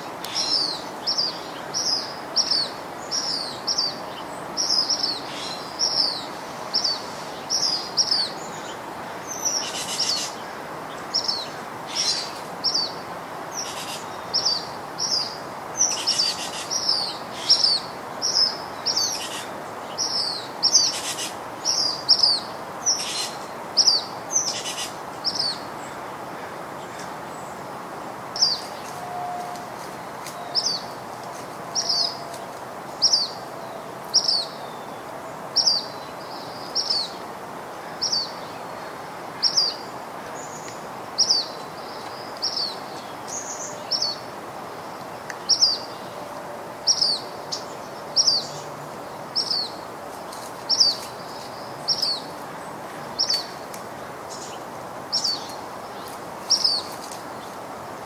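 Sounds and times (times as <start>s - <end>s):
outdoor background hiss: 0.0s - 58.0s.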